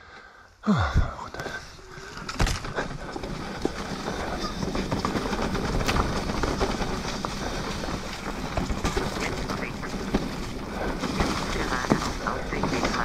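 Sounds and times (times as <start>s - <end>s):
bike tyres and chain rolling: 1.3s - 13.0s
bike knocking and rattling: 1.4s - 13.0s.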